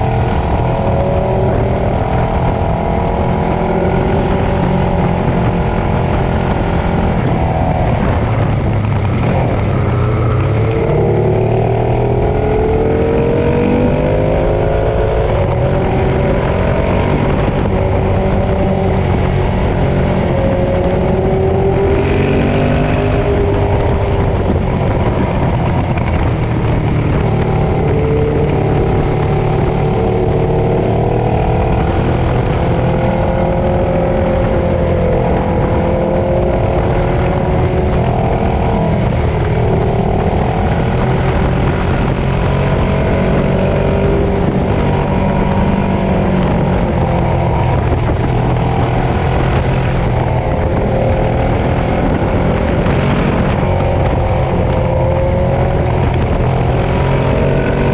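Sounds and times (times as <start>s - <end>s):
motorcycle engine revving: 0.0s - 57.9s
wind and road noise: 0.0s - 57.9s.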